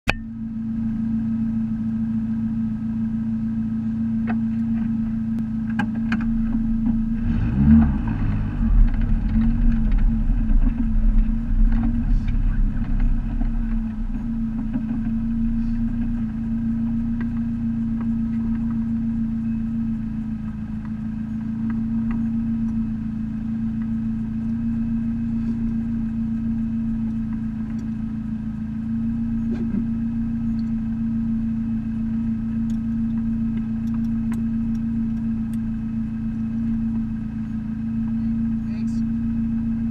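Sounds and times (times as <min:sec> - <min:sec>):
car engine idling: 0:00.1 - 0:39.9.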